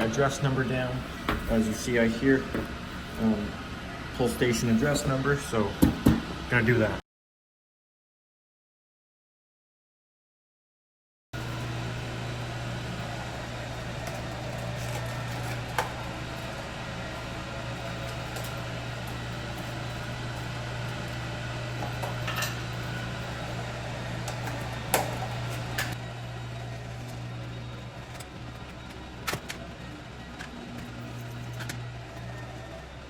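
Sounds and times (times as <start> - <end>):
low machine hum: 0.0 - 7.0, 11.4 - 33.0.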